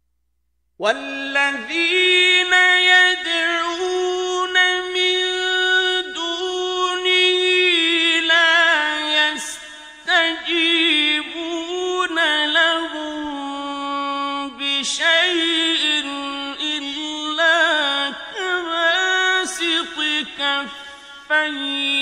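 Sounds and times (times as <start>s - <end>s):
man chanting melodic recitation: 0.8s - 22.0s.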